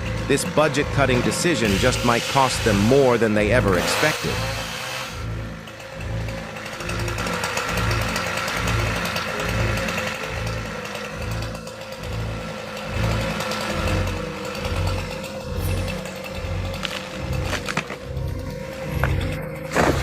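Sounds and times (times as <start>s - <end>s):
chainsaw running: 0.0s - 20.0s.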